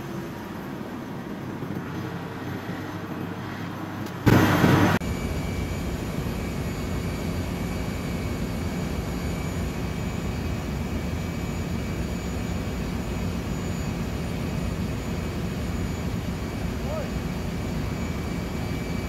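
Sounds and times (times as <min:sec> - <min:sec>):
faint high whines: 0:00.0 - 0:19.0
machinery low rumble: 0:00.0 - 0:19.0.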